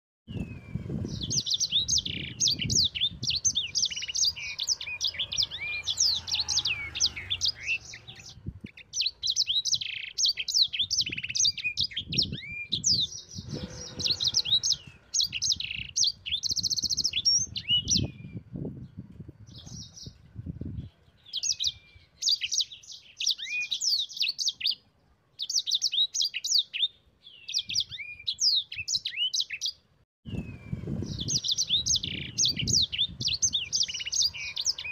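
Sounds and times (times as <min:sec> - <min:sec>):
canary singing: 0:00.3 - 0:18.5, 0:20.8 - 0:24.8, 0:25.4 - 0:34.9.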